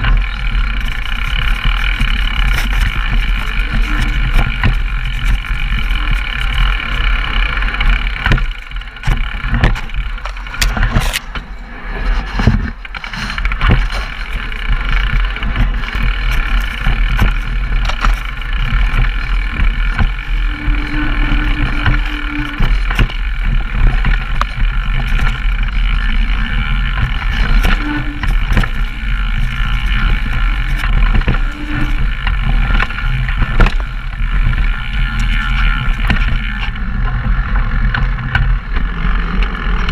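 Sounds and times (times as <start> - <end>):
bike rattles and knocks: 0.0 - 39.9
wind and rolling rumble: 0.0 - 39.9.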